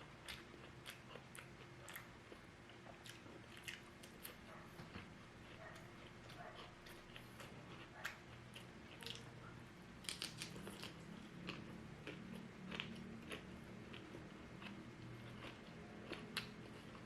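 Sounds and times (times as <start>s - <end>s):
person chewing crunchy food: 0.0s - 9.4s, 10.0s - 17.0s.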